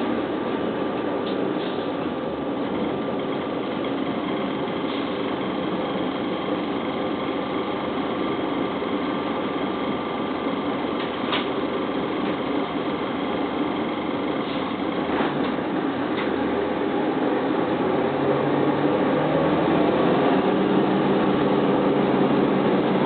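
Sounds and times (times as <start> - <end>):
bus diesel engine drone: 0.0 - 23.0
constant high whine: 0.0 - 23.0.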